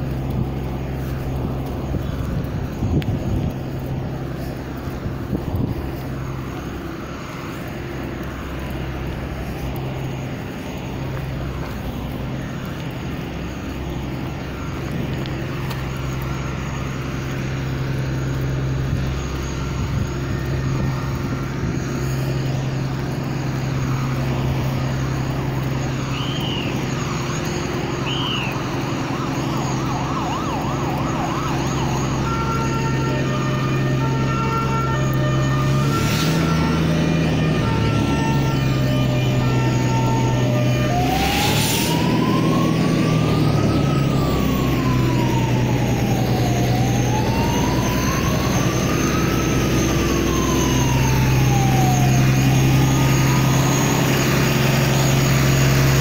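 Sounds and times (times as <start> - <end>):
diesel engine humming: 0.0 - 56.0
siren whoops: 0.0 - 56.0.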